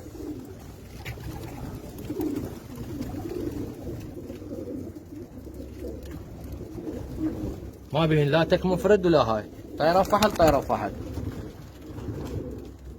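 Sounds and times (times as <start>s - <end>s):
pigeons cooing: 0.0s - 12.9s.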